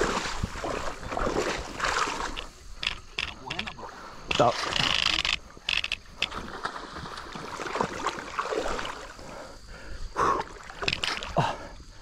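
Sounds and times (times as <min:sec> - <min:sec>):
river water flowing and splashing: 0:00.0 - 0:12.0.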